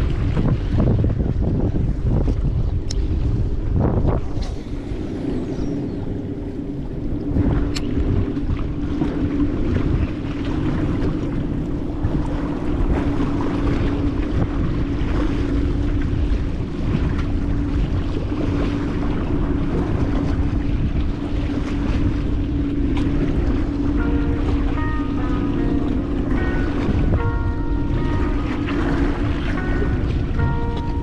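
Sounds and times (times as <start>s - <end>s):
boat engine droning: 0.0s - 31.0s
wind buffeting microphone: 0.0s - 31.0s.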